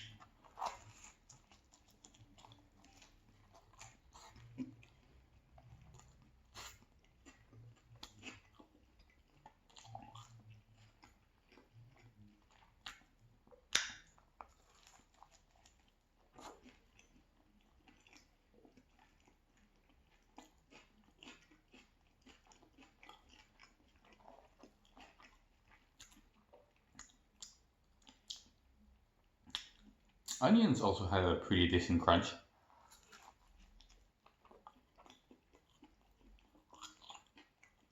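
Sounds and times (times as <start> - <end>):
chewing crunchy food: 0.0 - 30.4, 32.4 - 37.9.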